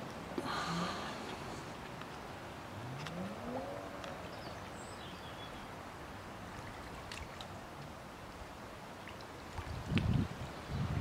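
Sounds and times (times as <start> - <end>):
water lapping: 0.0 - 10.7.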